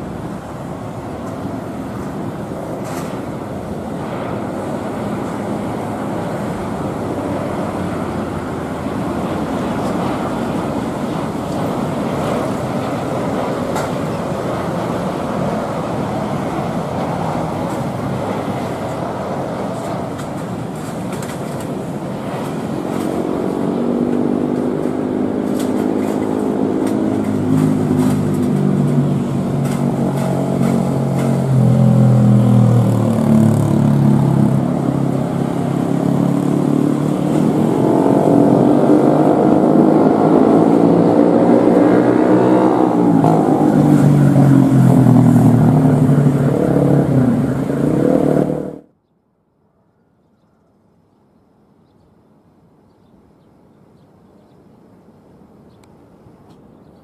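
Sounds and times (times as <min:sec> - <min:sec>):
jet engines whining: 0:00.0 - 0:48.8.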